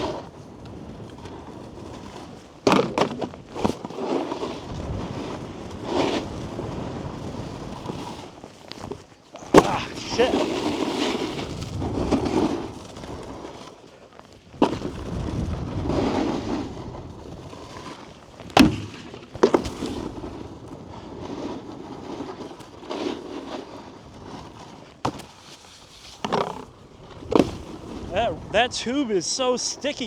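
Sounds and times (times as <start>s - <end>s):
snowboard knocks: 0.0s - 13.8s, 14.6s - 28.9s
snowboard scraping on snow: 0.0s - 30.0s.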